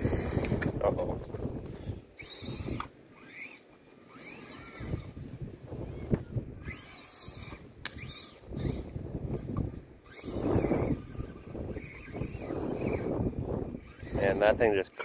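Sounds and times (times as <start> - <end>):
rc car motor and gears whining: 0.0 - 15.0.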